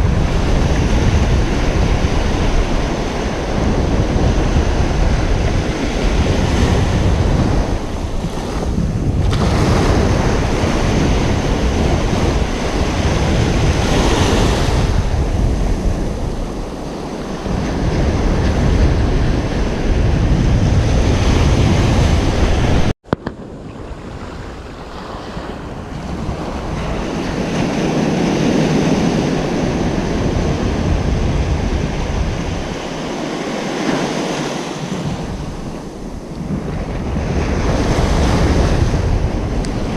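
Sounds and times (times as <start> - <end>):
ocean surf breaking: 0.0 - 39.9
wind rumbling on microphone: 0.0 - 39.9.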